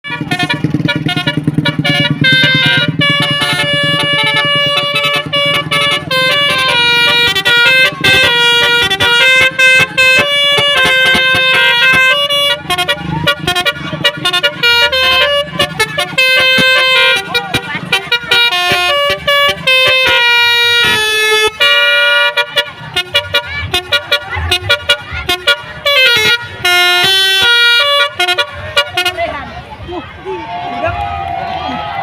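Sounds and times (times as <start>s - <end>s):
car horns playing a tune: 0.0s - 29.5s.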